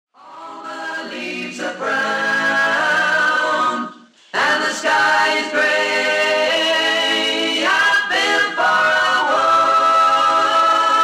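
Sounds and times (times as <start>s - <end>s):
a cappella group singing: 0.2s - 11.0s.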